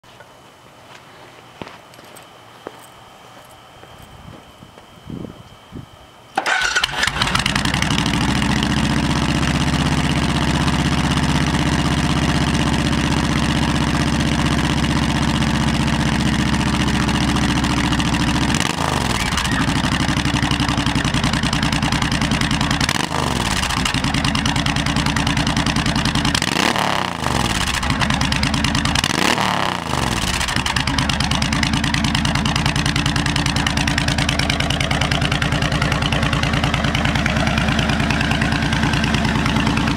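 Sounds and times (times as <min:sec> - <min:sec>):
motorcycle engine idling and revving: 0:06.4 - 0:39.9.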